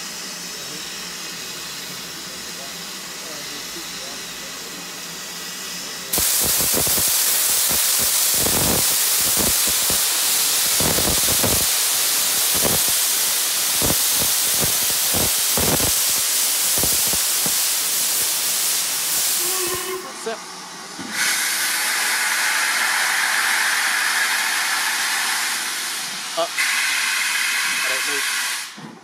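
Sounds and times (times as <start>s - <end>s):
steam hissing from safety valves: 0.0s - 20.4s, 21.1s - 28.8s.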